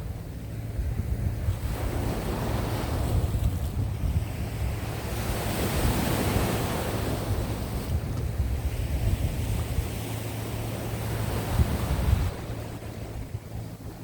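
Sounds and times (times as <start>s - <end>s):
sea waves washing ashore: 0.0s - 14.0s
wind on microphone: 0.0s - 14.0s.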